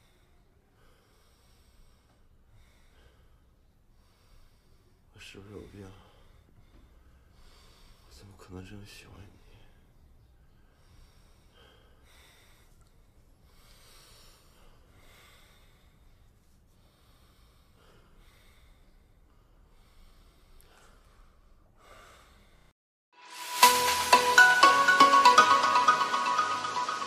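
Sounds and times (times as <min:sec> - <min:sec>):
faint breathing: 0:00.0 - 0:08.5, 0:09.2 - 0:22.8.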